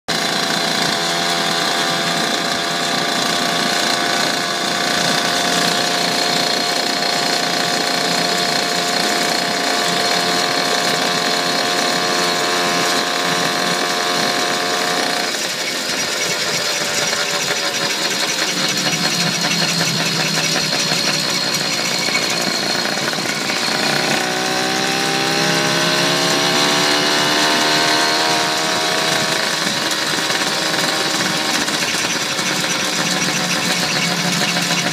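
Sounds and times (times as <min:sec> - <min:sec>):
small motorbike engine running: 0:00.1 - 0:34.9.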